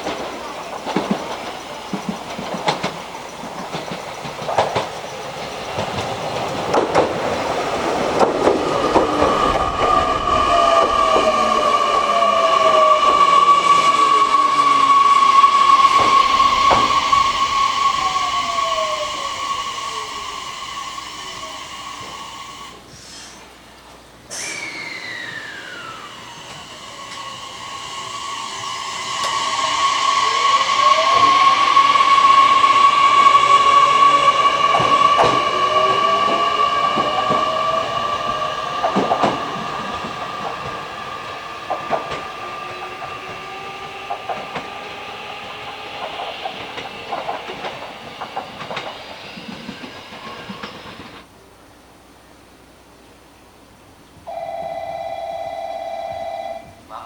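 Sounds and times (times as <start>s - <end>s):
wheels clicking over rail joints: 0.0s - 51.3s
train high whine: 0.0s - 57.0s.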